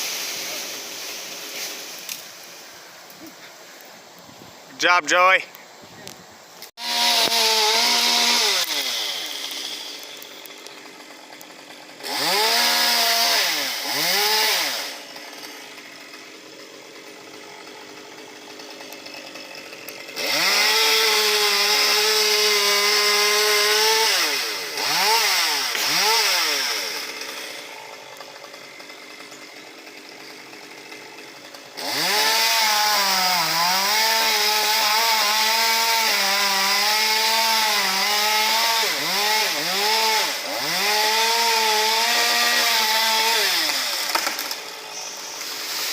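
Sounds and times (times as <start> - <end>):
chainsaw cutting wood: 0.0 - 3.6, 6.6 - 45.9.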